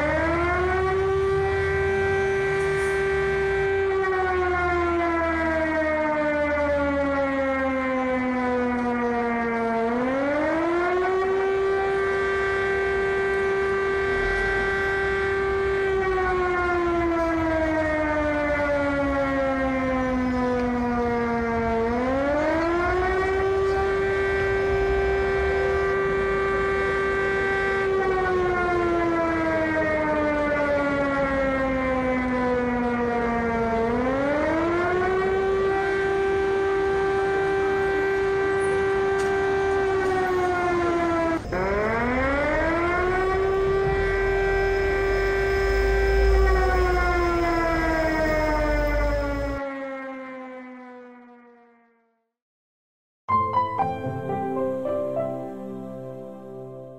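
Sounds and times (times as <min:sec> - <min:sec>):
air raid siren wailing: 0:00.0 - 0:52.3, 0:53.3 - 0:56.9.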